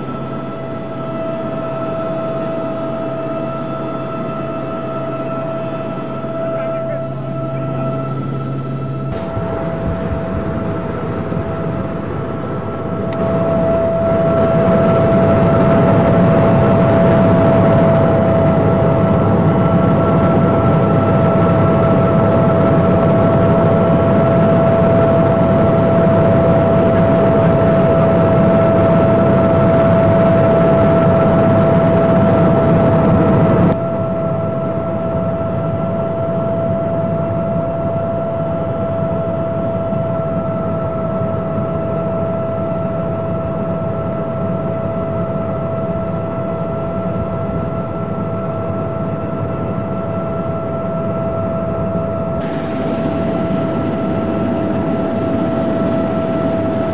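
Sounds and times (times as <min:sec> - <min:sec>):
constant whine: 0:00.0 - 0:56.9
helicopter engine and rotor noise: 0:00.0 - 0:56.9.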